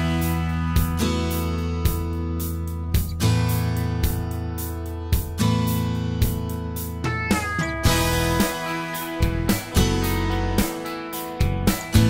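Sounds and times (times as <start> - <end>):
low bass line: 0.0 - 10.8, 11.4 - 12.0
plucked notes: 0.0 - 12.0.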